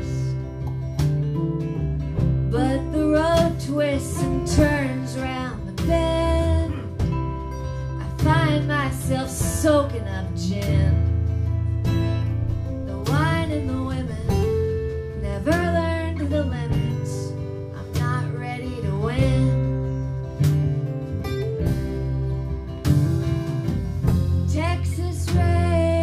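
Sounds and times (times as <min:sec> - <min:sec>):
bending guitar melody: 0:00.0 - 0:26.0
strummed acoustic guitars: 0:00.0 - 0:26.0.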